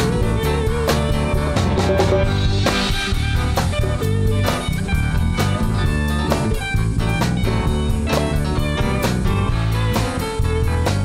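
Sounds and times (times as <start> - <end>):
drum kit steady beat: 0.0 - 11.0
electric guitar: 0.0 - 11.0.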